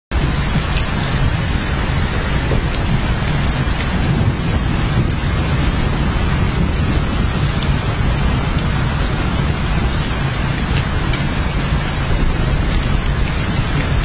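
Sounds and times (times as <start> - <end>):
rain drops ticking: 0.1 - 14.0
steady rain: 0.1 - 14.0
deep low rumble: 0.2 - 14.0.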